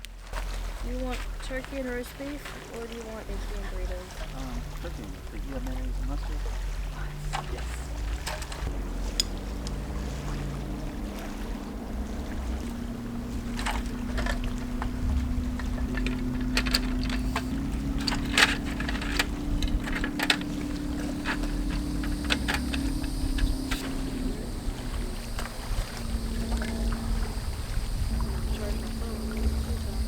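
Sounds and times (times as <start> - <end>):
boat motor humming: 0.0 - 30.0
wind rumble: 0.0 - 30.0.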